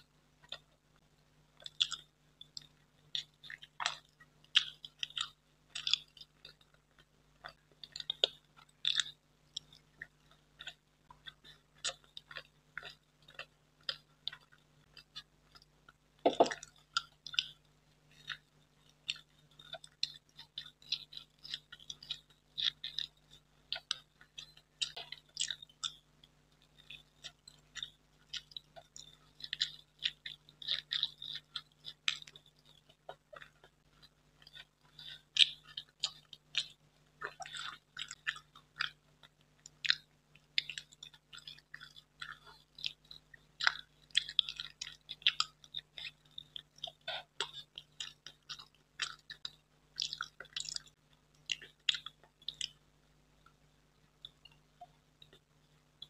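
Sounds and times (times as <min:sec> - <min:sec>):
mouth clicks and smacks chewing: 0:00.0 - 0:56.0.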